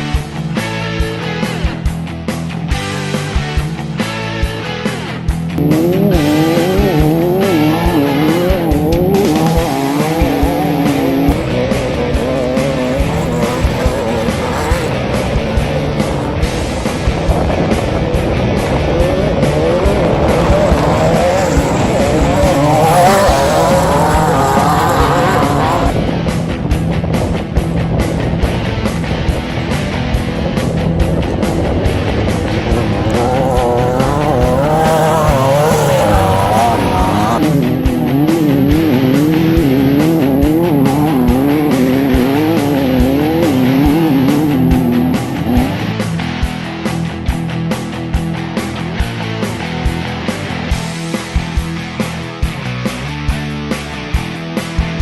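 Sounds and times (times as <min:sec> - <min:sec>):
background music: 0:00.0 - 0:26.6, 0:27.6 - 0:55.0
buggy engine revving: 0:00.0 - 0:55.0.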